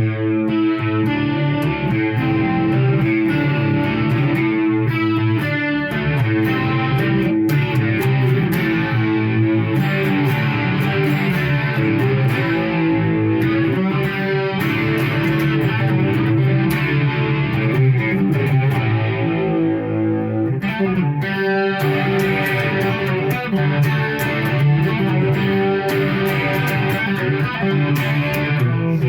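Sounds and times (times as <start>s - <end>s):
electric guitar playing: 0.0s - 29.0s.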